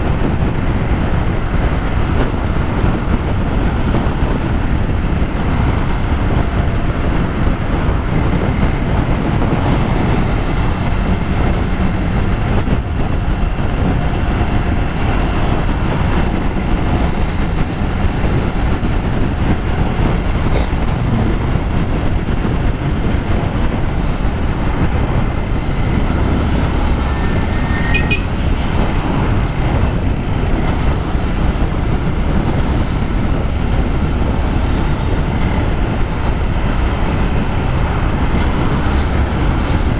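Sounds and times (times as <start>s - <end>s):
passing traffic: 0.0s - 39.9s
road noise: 0.0s - 39.9s
wind buffeting microphone: 0.0s - 39.9s.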